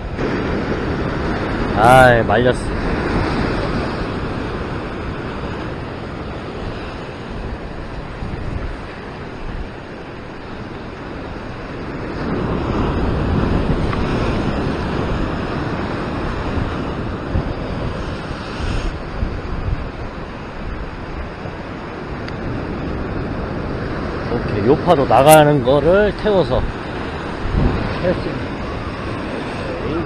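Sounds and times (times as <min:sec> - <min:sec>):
surf breaking against rocks: 0:00.0 - 0:30.0
wind buffeting microphone: 0:00.0 - 0:30.0.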